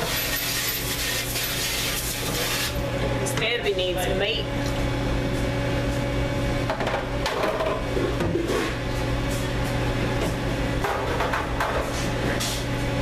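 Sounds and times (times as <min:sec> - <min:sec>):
kitchen machinery hum: 0:00.0 - 0:13.0.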